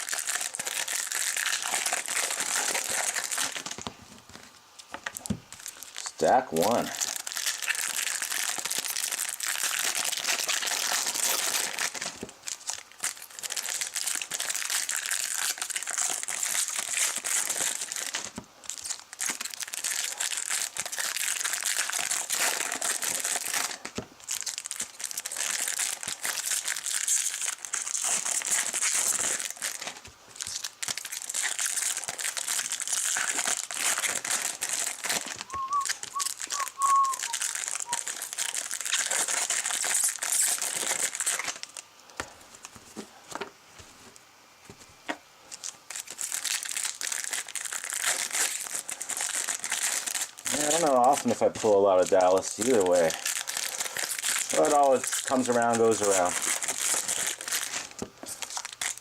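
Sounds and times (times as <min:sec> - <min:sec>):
card pack wrappers tearing: 0:00.0 - 0:03.9, 0:04.8 - 0:42.8, 0:45.5 - 0:59.0.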